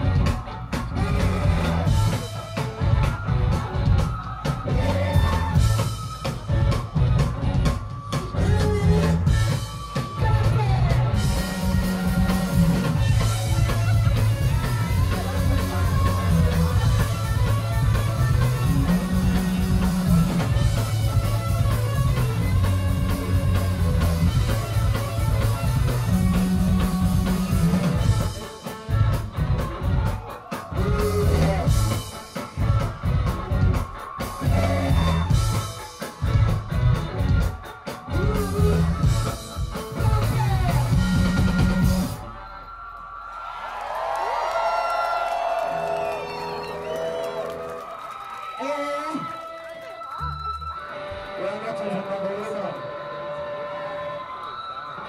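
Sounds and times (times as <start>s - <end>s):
live rock band playing: 0.0s - 43.2s, 43.9s - 55.0s.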